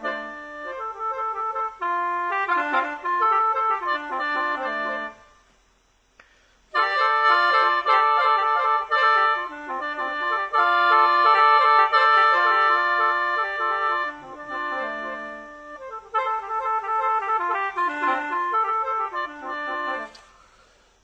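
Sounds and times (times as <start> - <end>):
mouth organ melody over drone: 0.0 - 5.4, 6.7 - 20.3.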